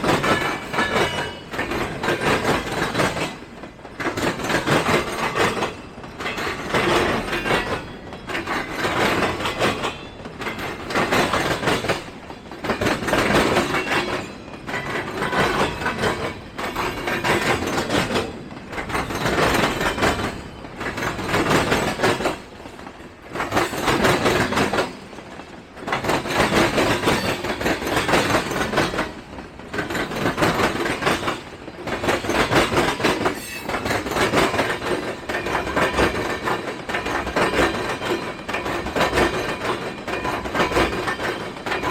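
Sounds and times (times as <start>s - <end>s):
train wheels clattering over joints: 0.0s - 41.9s.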